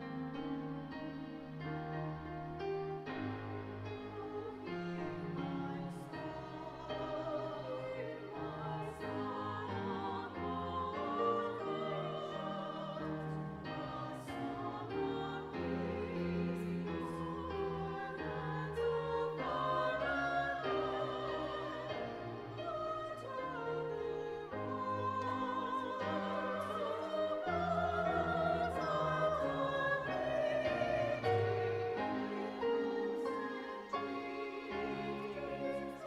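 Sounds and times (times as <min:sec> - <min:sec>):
choir singing slow piece: 0:00.0 - 0:36.0.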